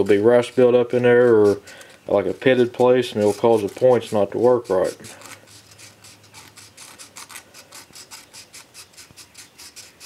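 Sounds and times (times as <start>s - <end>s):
sandpaper scratching: 0.0s - 10.0s.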